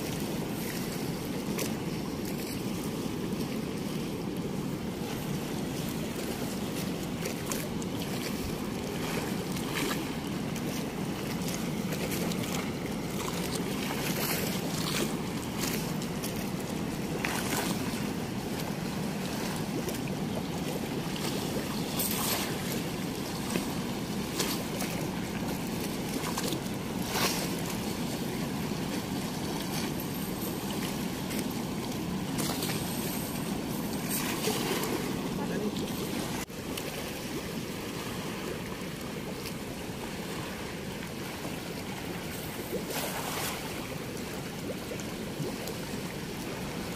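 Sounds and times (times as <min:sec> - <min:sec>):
river water rushing through weir: 0:00.0 - 0:46.9.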